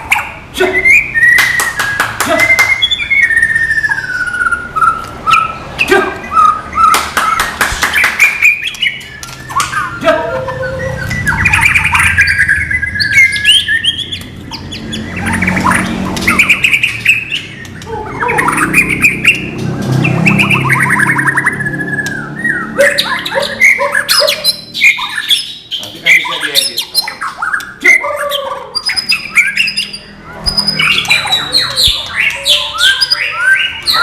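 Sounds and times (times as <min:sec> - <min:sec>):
bird singing whistled phrases: 0:00.1 - 0:07.4, 0:08.0 - 0:19.5, 0:20.3 - 0:34.0.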